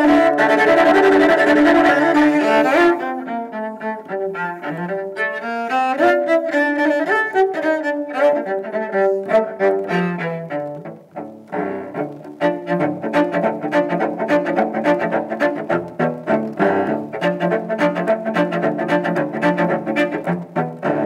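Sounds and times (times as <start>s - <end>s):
bowed cello melody: 0.0s - 21.0s.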